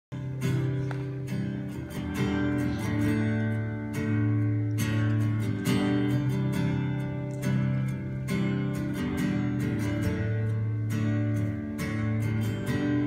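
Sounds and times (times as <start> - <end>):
acoustic guitar strumming chords: 0.1 - 13.0.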